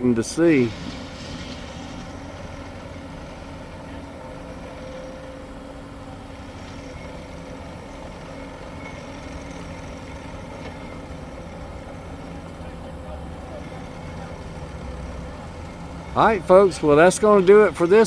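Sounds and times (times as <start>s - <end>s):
construction machinery engine drone: 0.0s - 18.0s.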